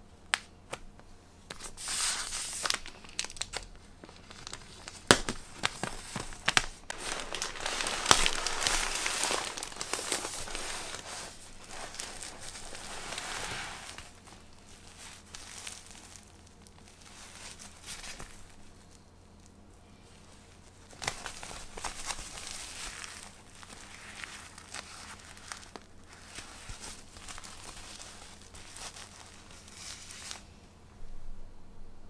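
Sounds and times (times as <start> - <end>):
diaper crinkling and rustling: 1.5 - 19.6, 20.2 - 30.5.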